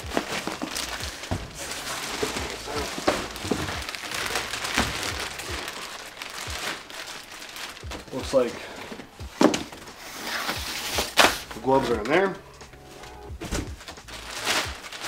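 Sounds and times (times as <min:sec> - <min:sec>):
plastic wrapping crinkling: 0:00.0 - 0:12.4, 0:13.0 - 0:15.0.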